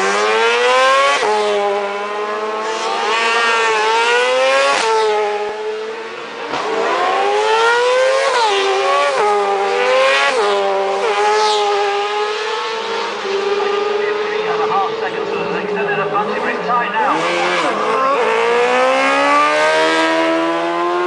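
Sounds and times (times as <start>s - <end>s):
racing engines revving past: 0.0s - 21.0s.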